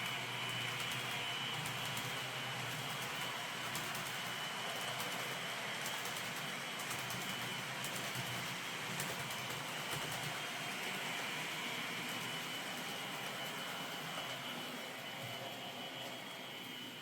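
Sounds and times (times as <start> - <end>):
model train rolling hiss: 0.0 - 17.0.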